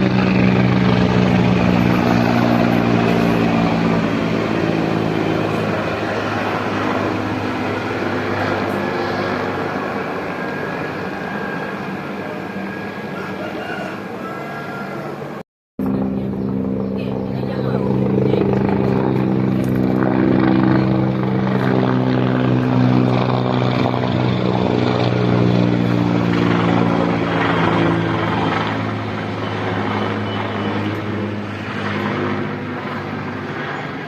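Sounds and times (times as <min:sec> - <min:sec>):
helicopter rotor drone: 0:00.0 - 0:34.0.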